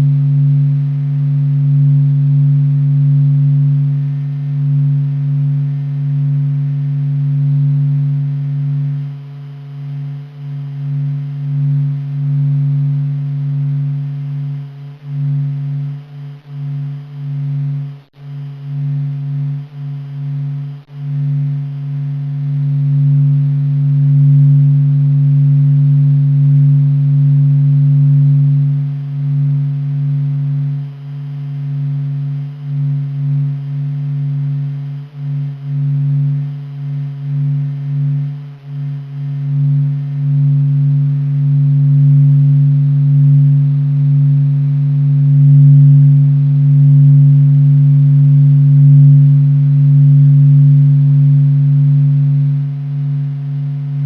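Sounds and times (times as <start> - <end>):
low steady drone: 0.0 - 54.0.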